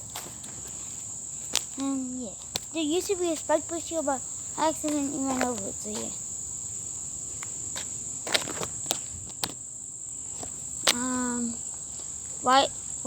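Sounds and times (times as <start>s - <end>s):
high-pitched insect chirring: 0.0s - 13.0s.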